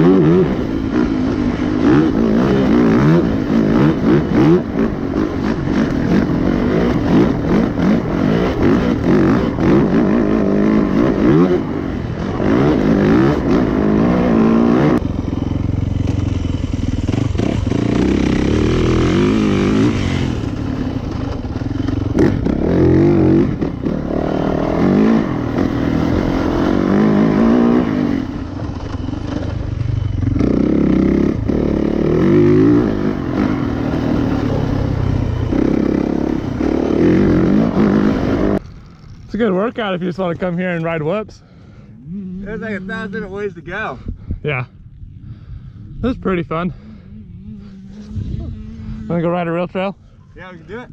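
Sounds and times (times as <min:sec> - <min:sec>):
motorcycle engine revving: 0:00.0 - 0:41.0, 0:42.0 - 0:43.8, 0:46.2 - 0:50.9.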